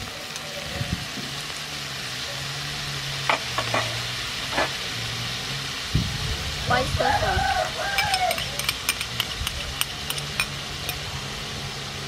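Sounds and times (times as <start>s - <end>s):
shrimp sizzling in frying pan: 0.0s - 12.0s.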